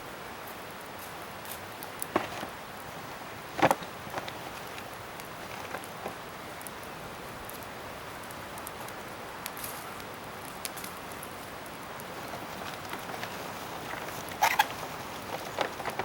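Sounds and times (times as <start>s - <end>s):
bonfire crackling and popping: 1.0s - 16.0s.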